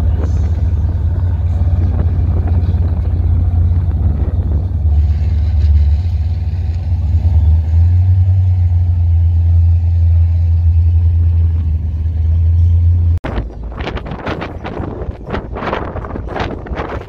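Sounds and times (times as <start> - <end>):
car exhaust rumble: 0.0 - 17.0.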